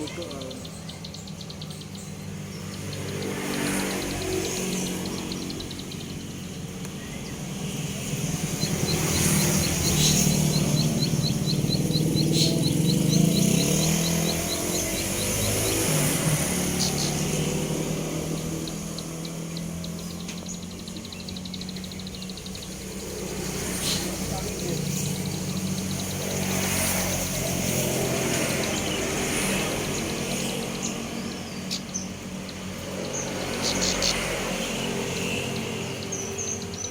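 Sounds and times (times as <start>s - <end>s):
motor vehicle engine drone: 0.0s - 36.9s
songbird calling in high ticks: 0.0s - 36.9s.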